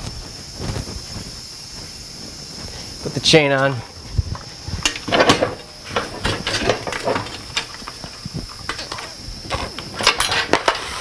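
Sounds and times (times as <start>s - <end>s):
bicycle chain clicking and rattling: 0.0s - 11.0s.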